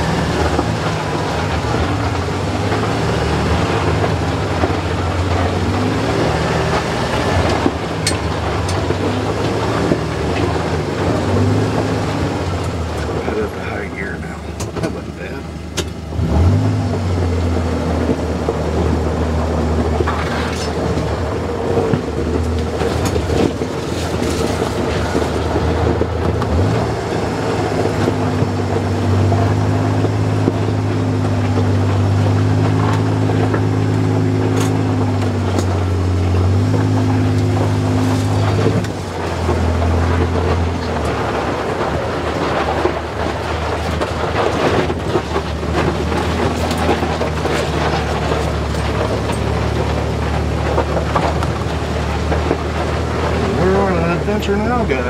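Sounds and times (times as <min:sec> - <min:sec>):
knocks and rattles on dirt track: 0:00.0 - 0:55.0
utility vehicle engine running: 0:00.0 - 0:55.0.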